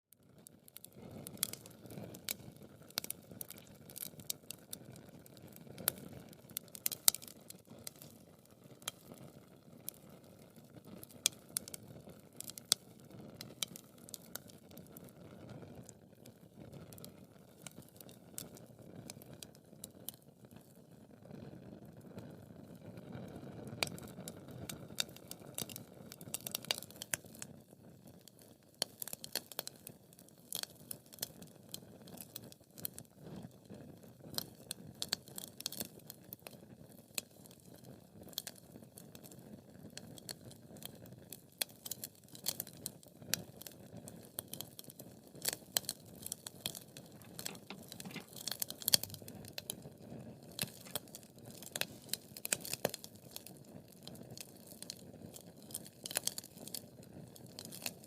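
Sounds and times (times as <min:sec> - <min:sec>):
fire crackles and pops: 0:00.2 - 0:58.0.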